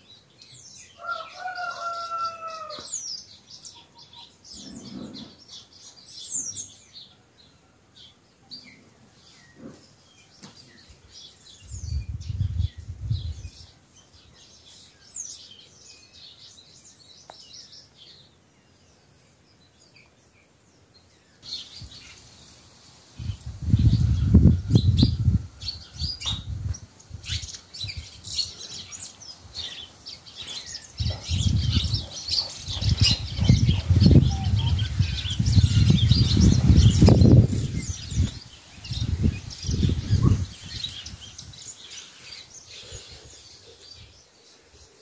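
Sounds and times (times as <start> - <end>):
wild birds chirping: 0.0 - 45.0.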